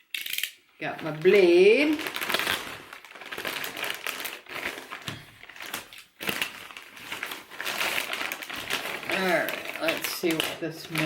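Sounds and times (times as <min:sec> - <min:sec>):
box and wrapping crinkling: 0:01.0 - 0:11.0.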